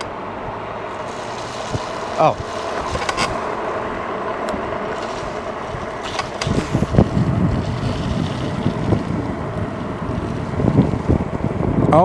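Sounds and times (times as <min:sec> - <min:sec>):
small moped engine running: 0:00.0 - 0:12.0
wind buffeting microphone: 0:00.0 - 0:12.0.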